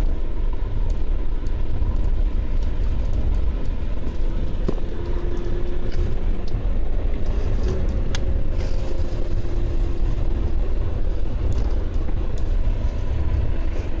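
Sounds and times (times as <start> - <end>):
car road rumble: 0.0 - 14.0
thin drivetrain whine: 0.0 - 14.0.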